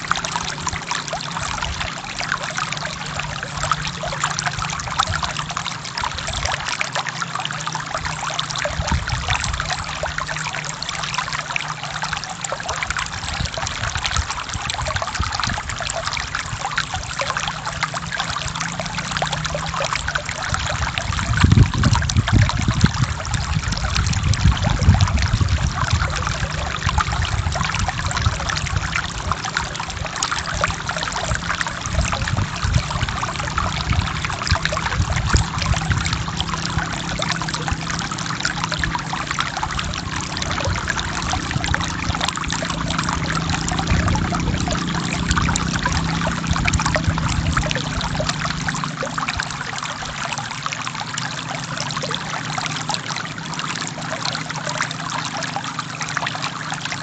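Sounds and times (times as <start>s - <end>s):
stream water splashing: 0.0s - 57.0s.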